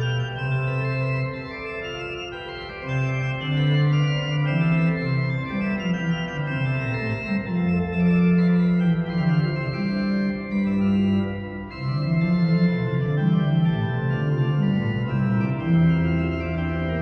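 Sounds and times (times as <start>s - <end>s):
small pipe organ playing chords: 0.0s - 17.0s.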